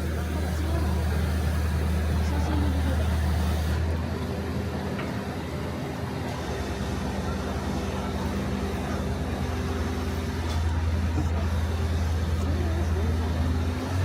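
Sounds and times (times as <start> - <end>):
road noise: 0.0 - 14.0
vehicle engine hum: 0.0 - 14.0.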